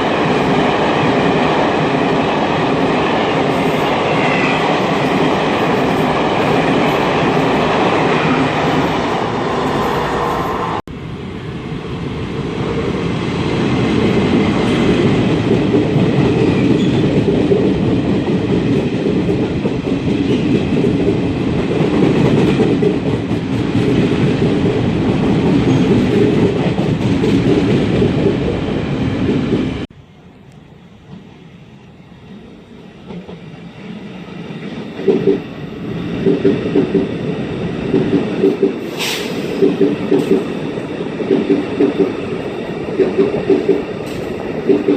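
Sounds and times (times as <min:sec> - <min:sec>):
train wheels rumbling on track: 0:00.0 - 0:44.9.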